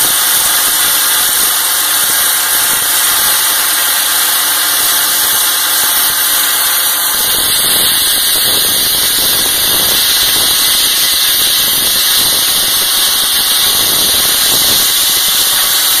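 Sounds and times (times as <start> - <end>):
engine noise: 0.0 - 16.0
hiss of air and slurry jetting: 0.0 - 16.0.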